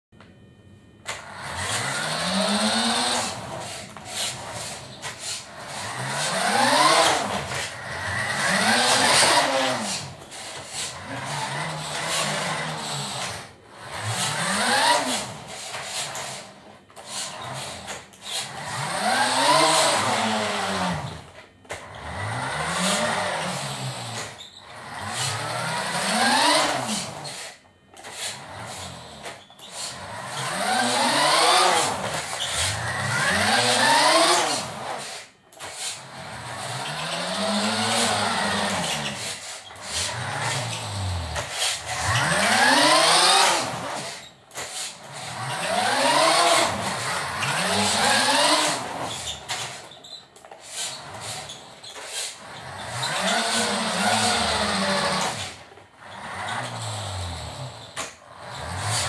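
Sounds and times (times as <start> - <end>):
rc car electric motor whining: 1.0 - 59.0.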